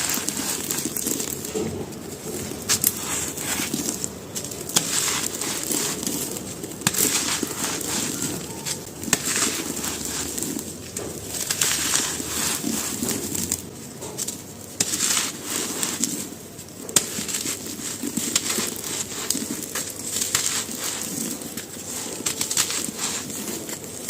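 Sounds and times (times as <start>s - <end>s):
dry pieces crunching and crumbling: 0.0s - 24.0s.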